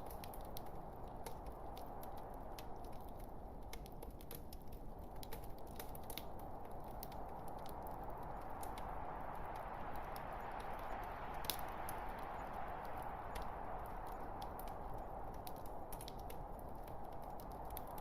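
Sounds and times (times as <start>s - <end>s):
fire crackling and popping: 0.0s - 18.0s
low rush of flame: 0.0s - 18.0s.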